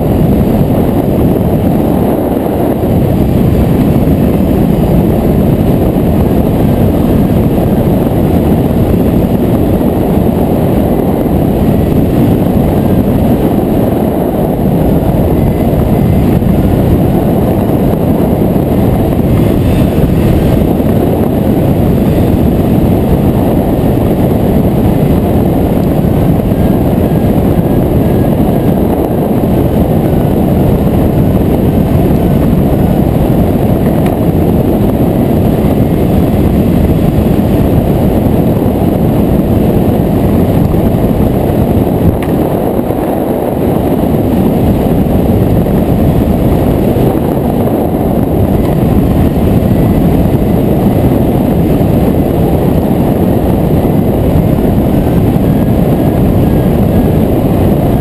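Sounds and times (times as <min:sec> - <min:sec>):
wind rushing on microphone: 0:00.0 - 0:58.0.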